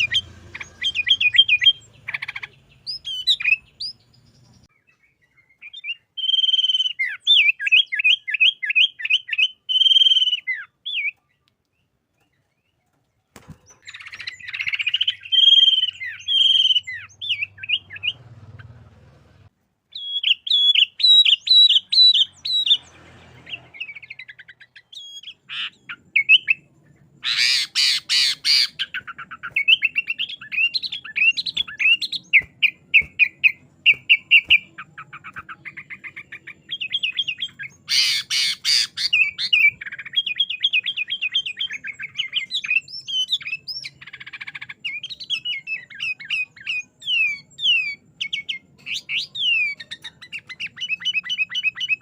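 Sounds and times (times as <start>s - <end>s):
bird chirping song: 0.0s - 52.0s.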